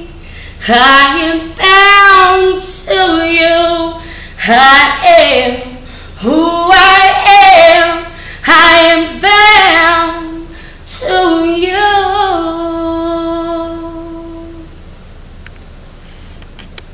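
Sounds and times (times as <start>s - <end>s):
woman singing unaccompanied: 0.0s - 14.7s.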